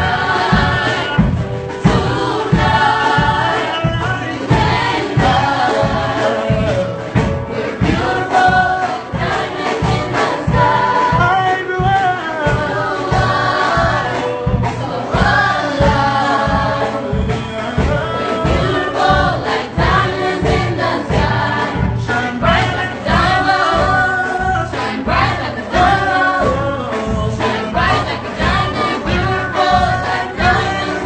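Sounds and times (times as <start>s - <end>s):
choir-like vocals: 0.0s - 31.0s
instrumental backing with beat: 0.0s - 31.0s.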